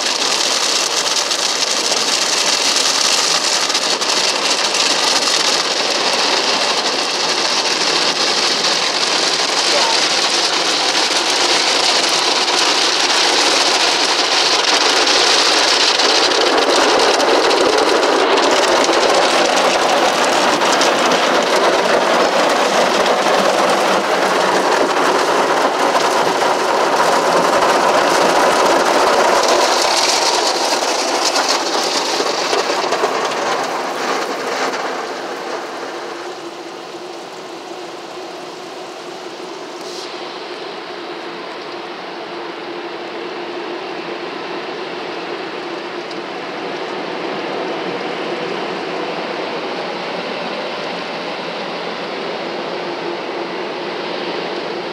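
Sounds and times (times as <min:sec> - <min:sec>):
car wash water spray: 0:00.0 - 0:54.9.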